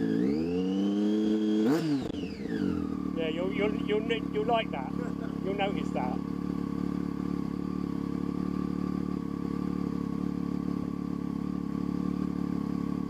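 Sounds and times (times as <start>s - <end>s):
motorcycle engine idling: 2.0s - 13.0s.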